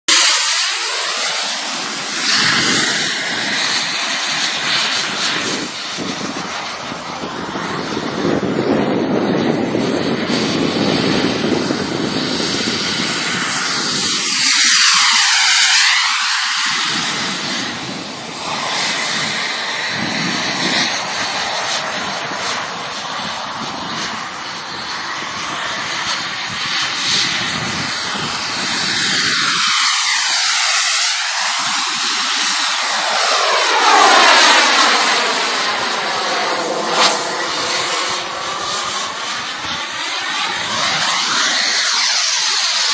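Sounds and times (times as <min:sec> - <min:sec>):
fighter jet flying past: 0:00.1 - 0:42.9.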